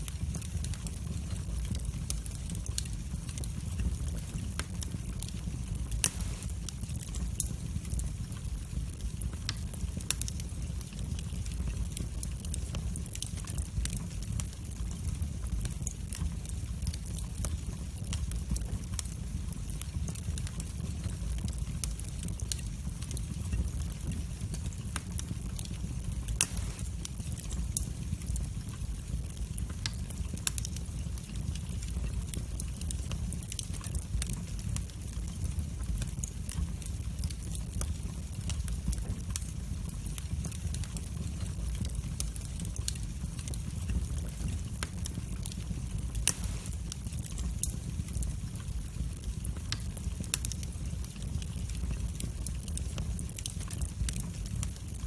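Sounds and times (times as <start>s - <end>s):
low rumble of flame: 0.0s - 55.0s
wood fire crackling: 0.0s - 55.0s.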